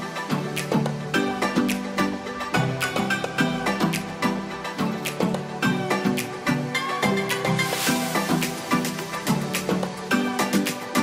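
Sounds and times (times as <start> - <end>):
steady music beat: 0.0 - 11.0.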